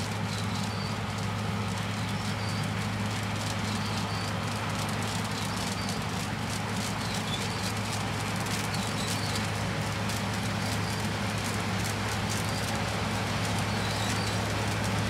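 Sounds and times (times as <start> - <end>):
combine harvester engine hum: 0.0 - 15.0
mechanical rattle with ticking: 0.0 - 15.0.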